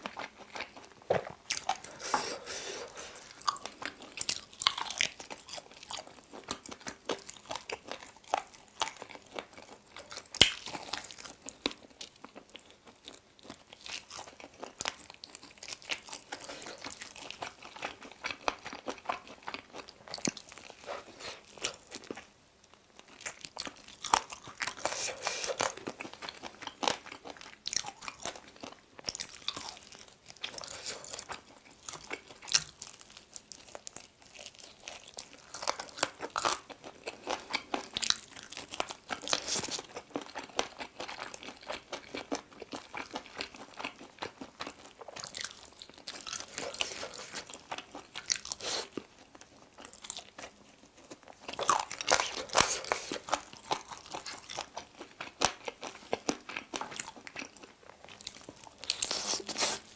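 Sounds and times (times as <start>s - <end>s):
crunchy chewing of chicken wings: 0.0s - 59.9s.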